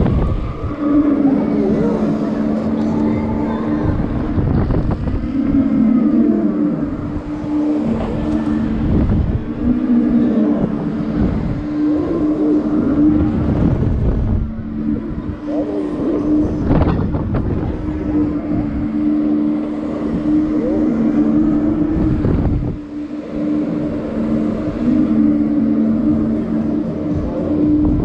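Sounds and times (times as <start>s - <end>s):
two-note hum: 0.0s - 28.0s
wind rushing over camera: 0.0s - 28.0s.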